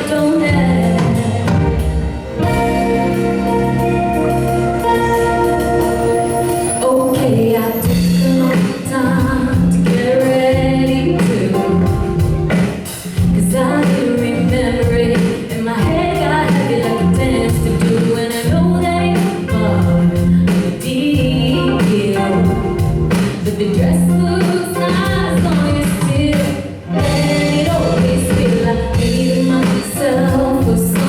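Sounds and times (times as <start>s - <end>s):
keyboard: 0.0s - 31.0s
steady drum beat: 0.3s - 6.8s, 7.8s - 31.0s.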